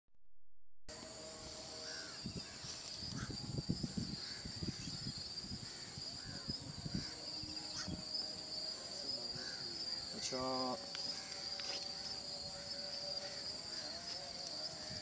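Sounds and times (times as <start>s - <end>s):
insects trilling: 0.9s - 15.0s.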